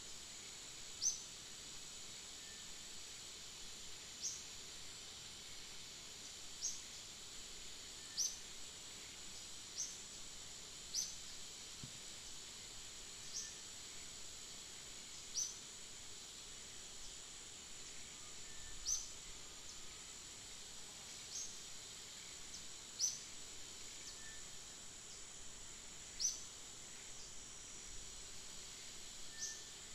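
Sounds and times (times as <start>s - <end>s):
insect buzz: 0.0s - 29.9s.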